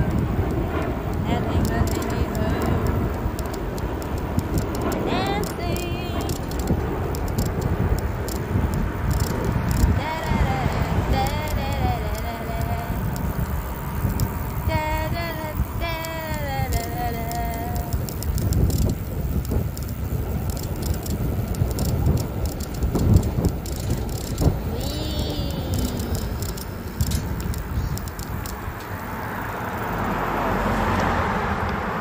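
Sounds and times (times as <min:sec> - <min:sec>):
car road noise: 0:00.0 - 0:32.0
wind buffeting microphone: 0:00.0 - 0:32.0.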